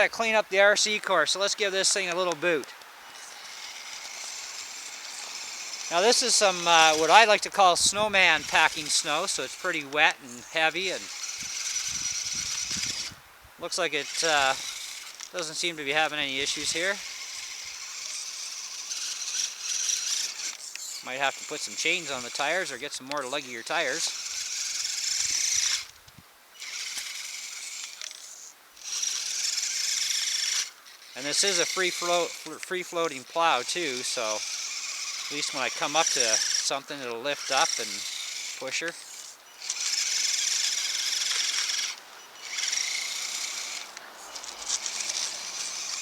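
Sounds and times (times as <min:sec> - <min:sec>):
toy car electric motor whining: 0:00.0 - 0:46.0.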